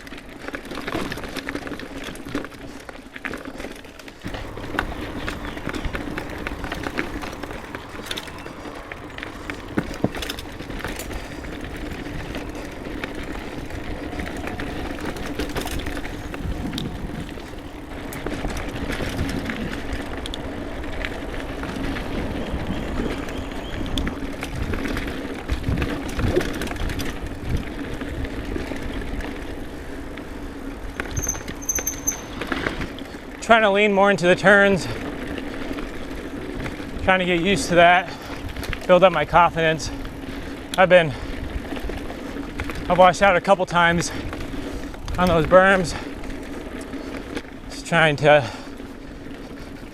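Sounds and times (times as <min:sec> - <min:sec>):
bike chain and frame clicking: 0:00.0 - 0:49.9
bike tyres rolling on dirt: 0:00.0 - 0:49.9.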